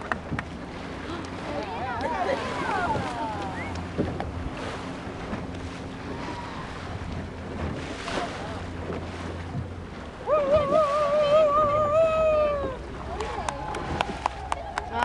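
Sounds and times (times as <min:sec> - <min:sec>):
boat motor humming: 0:00.0 - 0:15.0
water noise: 0:00.0 - 0:15.0
wind: 0:00.0 - 0:15.0.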